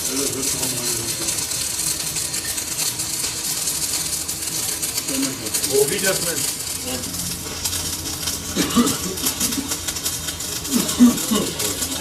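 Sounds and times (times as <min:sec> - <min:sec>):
fine rapid crackle: 0:00.0 - 0:12.0
lathe cutting metal hiss: 0:00.0 - 0:12.0.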